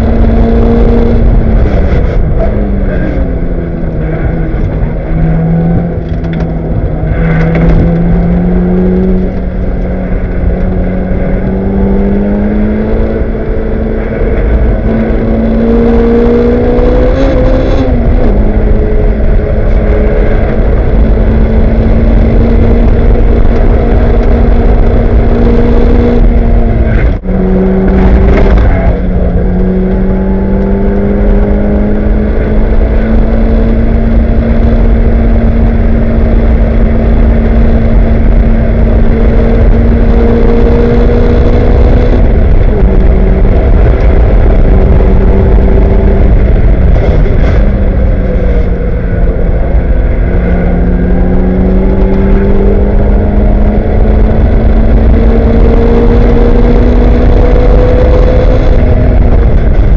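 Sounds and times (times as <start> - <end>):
race car engine under load: 0.0 - 59.9.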